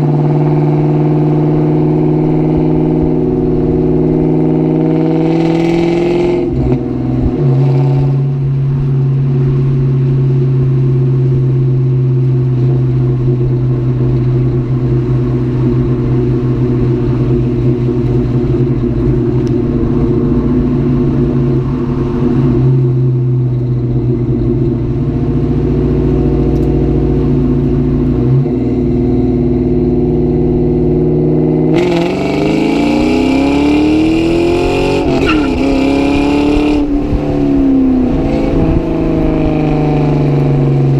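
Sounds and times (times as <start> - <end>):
car engine running and accelerating: 0.0 - 40.9.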